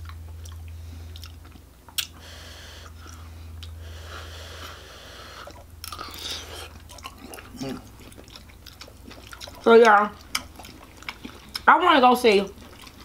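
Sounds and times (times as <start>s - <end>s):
people chewing: 0.0s - 13.0s
steady low hum: 0.0s - 13.0s.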